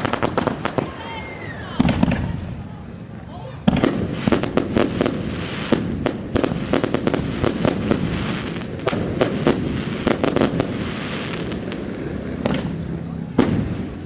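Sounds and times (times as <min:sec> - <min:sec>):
fireworks bangs and crackling: 0:00.0 - 0:14.0
rumble of firework bursts: 0:00.0 - 0:14.0.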